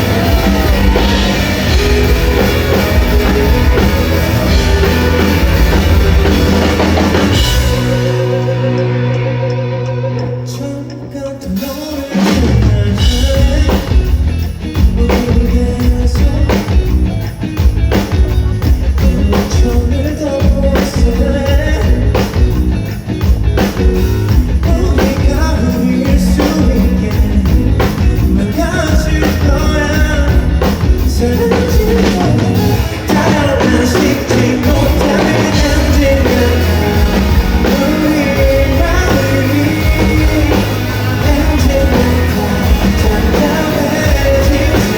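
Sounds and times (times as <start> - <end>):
person singing: 0.0 - 22.6, 24.5 - 44.9
drum kit: 0.0 - 44.9
live rock band playing: 0.0 - 44.9.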